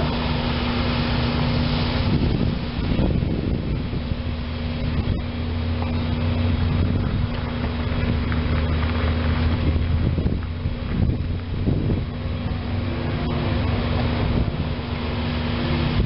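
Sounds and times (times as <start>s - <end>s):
distant diesel locomotive engine: 0.0s - 16.0s
wind noise on microphone: 0.0s - 16.0s.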